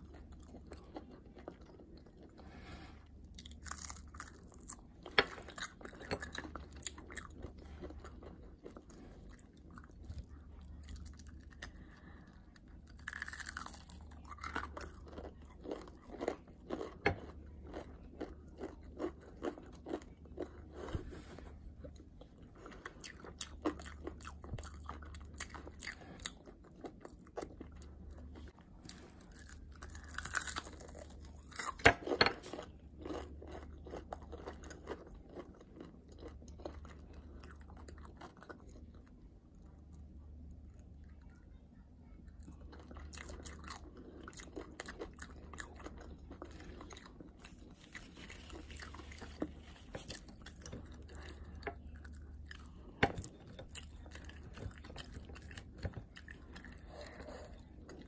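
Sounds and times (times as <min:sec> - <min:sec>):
crunching fried chicken: 0:00.0 - 0:21.0, 0:21.6 - 0:41.2, 0:42.2 - 0:58.0.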